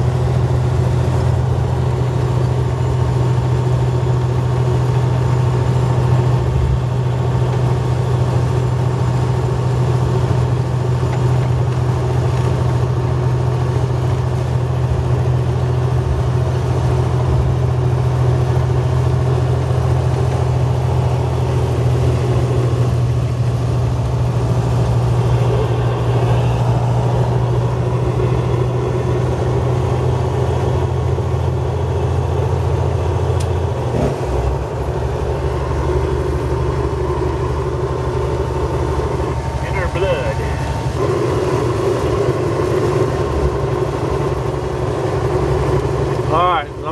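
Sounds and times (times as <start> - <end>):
vehicle engine humming: 0.0 - 46.9.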